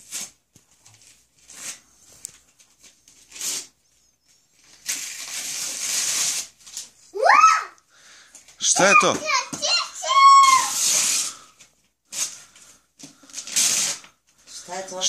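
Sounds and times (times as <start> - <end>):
gift-wrap paper rustling: 0.0 - 7.1, 8.1 - 15.0.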